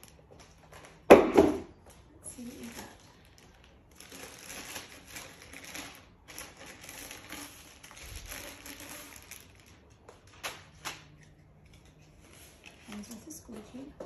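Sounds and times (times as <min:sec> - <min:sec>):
plastic packaging crinkling: 0:00.0 - 0:01.3, 0:01.9 - 0:13.9.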